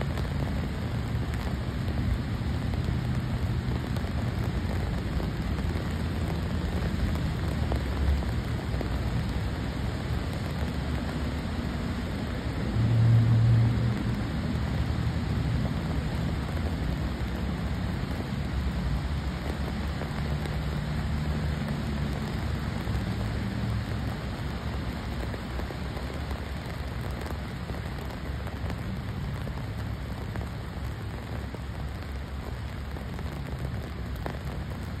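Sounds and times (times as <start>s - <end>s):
rain on asphalt and grass: 0.0s - 35.0s.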